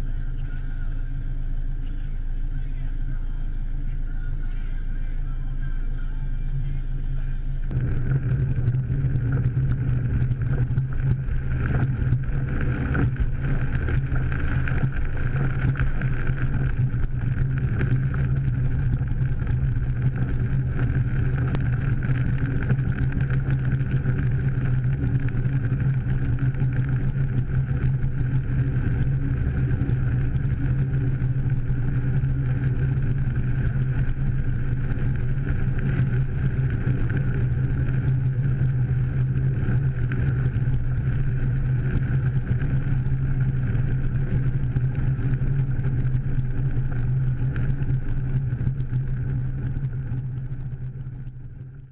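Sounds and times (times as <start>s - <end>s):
car engine and road noise: 0.0s - 51.8s.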